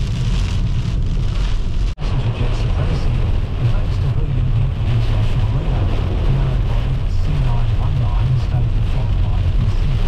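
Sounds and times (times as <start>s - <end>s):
heavy rain on car roof: 0.0s - 10.0s
road and wind noise rumble: 0.0s - 10.0s.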